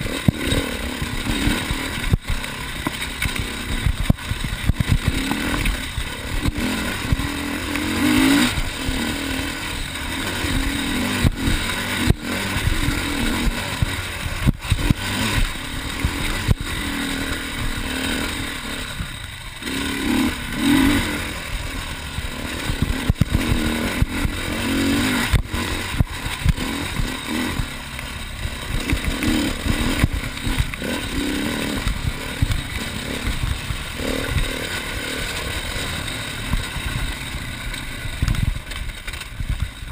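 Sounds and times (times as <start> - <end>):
bike knocking and clattering: 0.0 - 39.9
motorcycle engine revving: 0.0 - 39.9.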